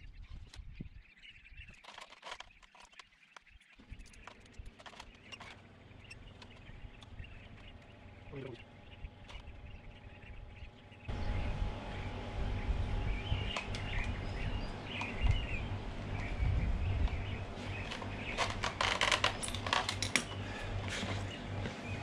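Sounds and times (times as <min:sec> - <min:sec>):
small birds chirping: 0:00.0 - 0:22.0
low outdoor rumble: 0:03.8 - 0:22.0.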